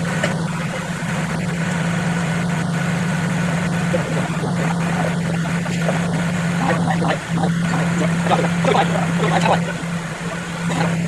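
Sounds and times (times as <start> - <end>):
car engine idling: 0.0 - 11.0
electric cooling fan: 0.0 - 11.0.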